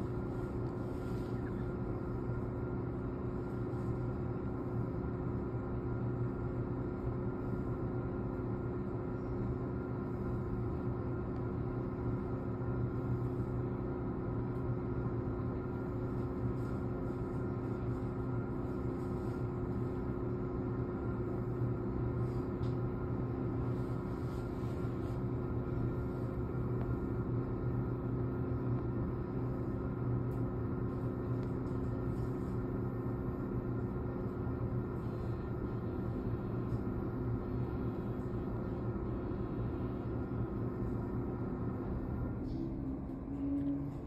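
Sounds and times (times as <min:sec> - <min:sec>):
train car hum: 0:00.0 - 0:44.0.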